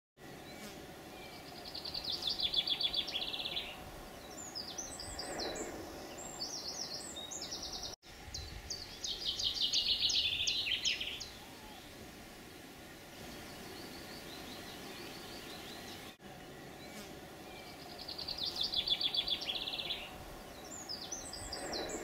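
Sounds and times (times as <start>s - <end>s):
low outdoor background noise: 0.2s - 22.0s
songbirds singing: 0.2s - 22.0s.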